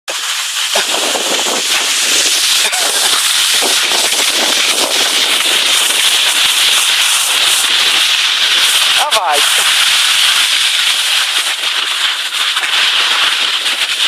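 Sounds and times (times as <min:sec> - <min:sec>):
skis scraping over packed snow: 0:00.1 - 0:14.0.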